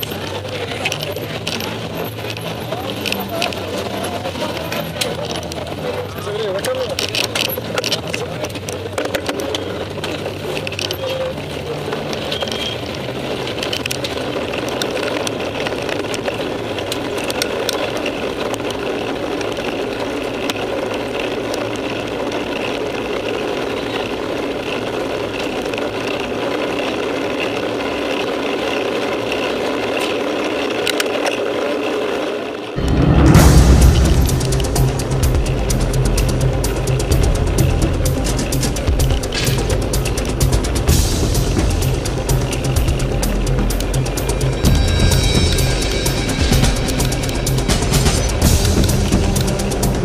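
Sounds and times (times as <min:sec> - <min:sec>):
bikes rattling on cobblestones: 0:00.0 - 0:50.0
scattered clicks: 0:00.0 - 0:50.0
tyre noise: 0:00.0 - 0:50.0.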